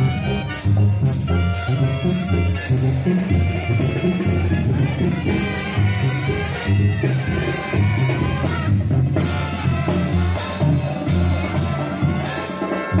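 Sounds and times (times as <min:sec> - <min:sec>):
bass drum and cymbals: 0:00.0 - 0:13.0
brass band music: 0:00.0 - 0:13.0.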